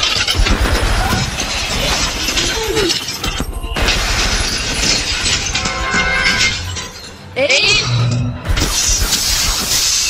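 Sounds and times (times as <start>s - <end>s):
crashing and breaking impacts: 0.0s - 10.0s.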